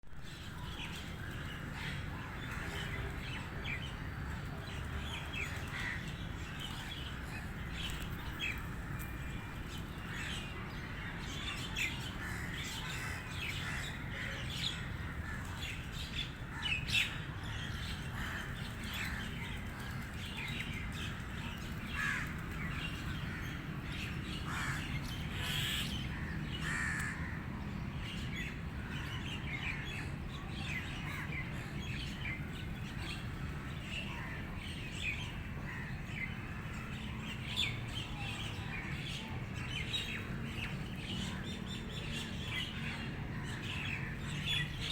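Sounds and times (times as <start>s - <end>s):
birds chirping and calling: 0.2s - 44.9s.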